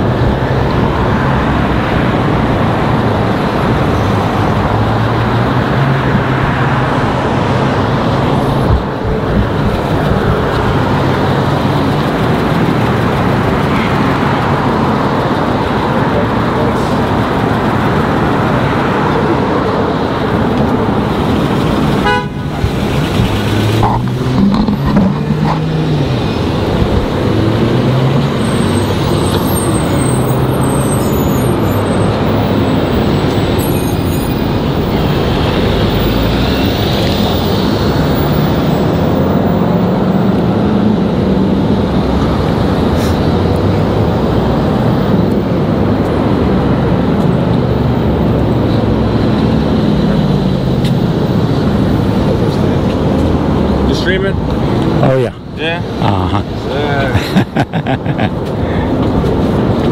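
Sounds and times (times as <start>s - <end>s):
busy road traffic: 0.0s - 59.9s.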